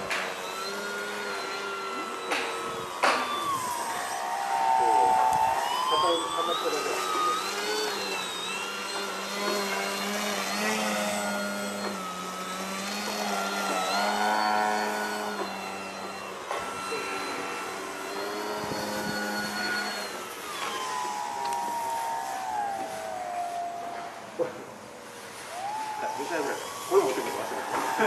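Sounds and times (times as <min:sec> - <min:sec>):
electric motor and propeller whining: 0:00.0 - 0:28.0.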